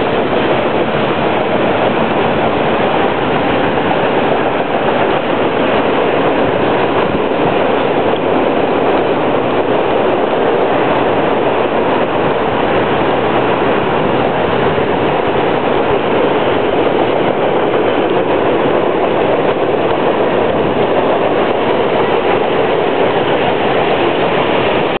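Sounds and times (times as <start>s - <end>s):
freight train passing: 0.0s - 25.0s.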